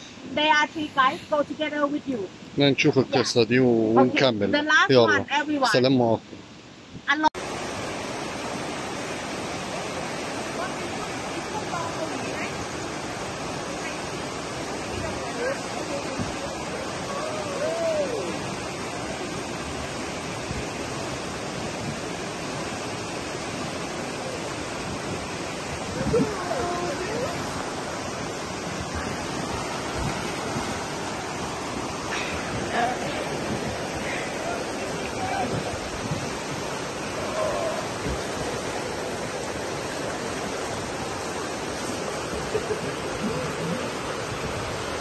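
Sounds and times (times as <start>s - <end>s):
river rapids rushing over rocks: 7.4s - 45.0s.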